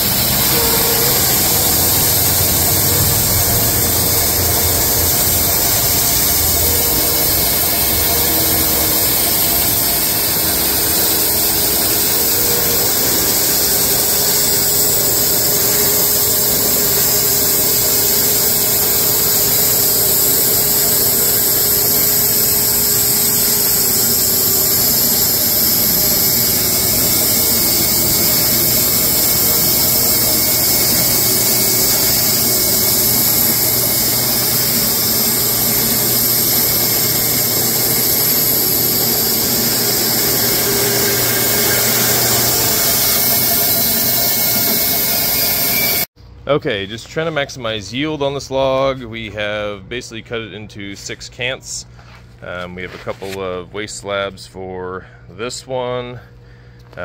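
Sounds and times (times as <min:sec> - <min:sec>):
band sawmill cutting wood: 0:00.0 - 0:46.1.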